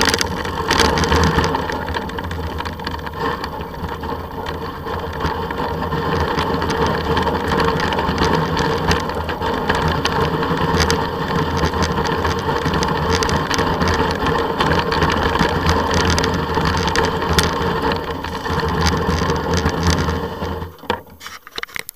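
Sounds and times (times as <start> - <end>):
vehicle motor running: 0.0 - 21.2
rough rumble on microphone: 0.0 - 21.5.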